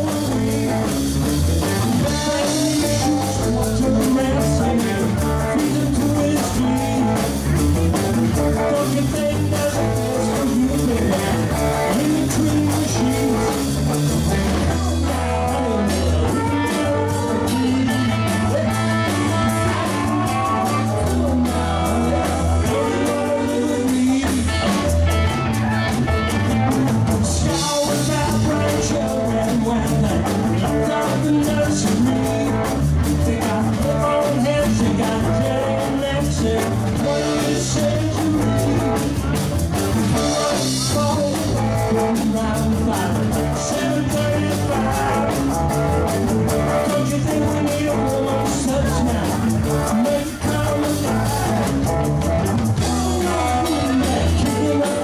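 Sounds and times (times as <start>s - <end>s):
bass guitar: 0.0s - 55.0s
drum kit beat: 0.0s - 55.0s
electric guitar: 0.0s - 55.0s.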